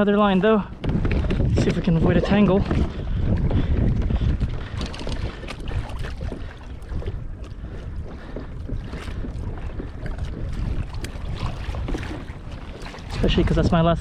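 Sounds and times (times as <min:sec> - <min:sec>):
water noise: 0:00.0 - 0:14.0
wind buffeting microphone: 0:00.0 - 0:14.0.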